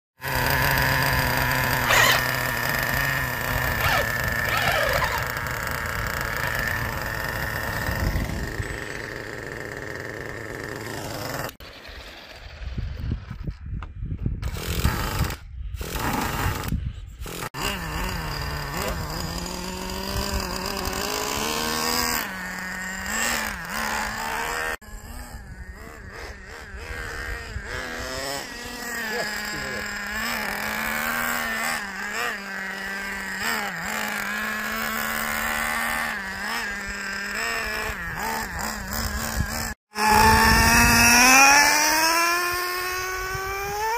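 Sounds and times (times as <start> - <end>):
small engine buzzing: 0.2 - 13.5, 14.4 - 43.9.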